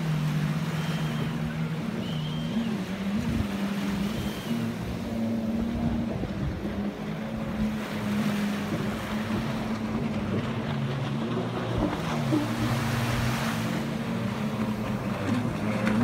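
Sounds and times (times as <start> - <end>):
jet ski engines revving: 0.0 - 16.0
small waves washing onto beach: 0.0 - 16.0.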